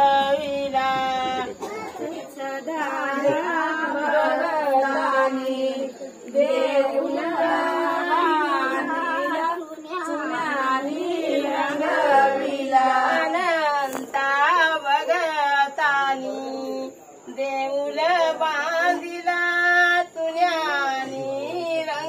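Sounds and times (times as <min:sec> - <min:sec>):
women singing together: 0:00.0 - 0:22.0.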